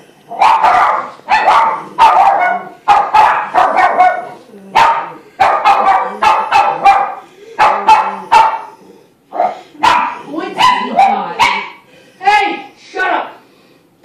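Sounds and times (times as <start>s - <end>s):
dog barking: 0.3s - 11.8s.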